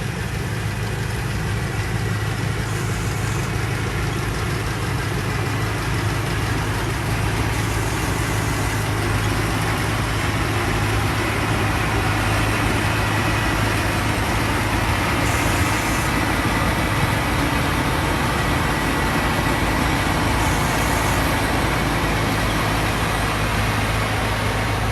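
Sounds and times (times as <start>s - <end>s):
combine harvester engine running: 0.0s - 24.9s.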